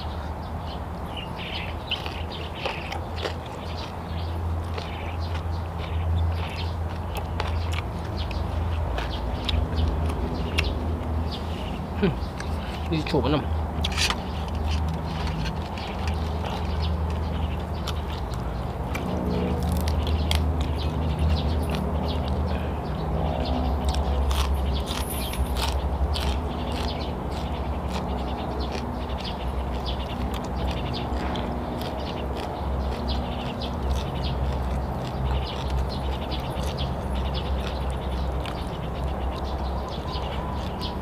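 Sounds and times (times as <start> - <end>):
mouth chewing: 1.3 - 41.0.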